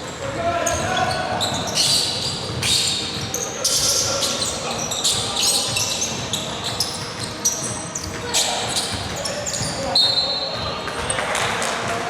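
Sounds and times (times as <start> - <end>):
sneakers squeaking on court: 0.0 - 11.9.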